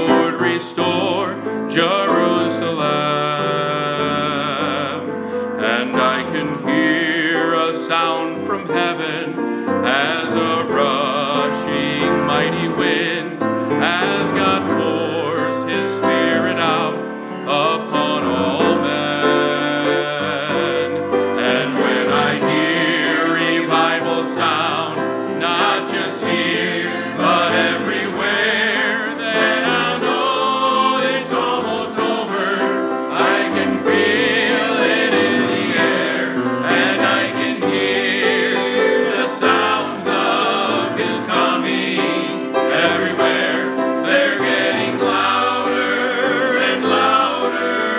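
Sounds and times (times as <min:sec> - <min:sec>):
gospel singing: 0:00.0 - 0:47.9
instrumental accompaniment: 0:00.0 - 0:47.9.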